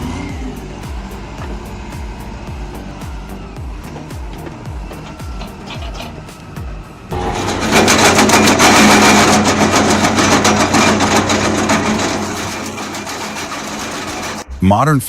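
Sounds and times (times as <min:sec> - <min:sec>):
heavy machinery engine hum: 0:00.0 - 0:14.6
rapid mechanical clatter: 0:01.0 - 0:14.5.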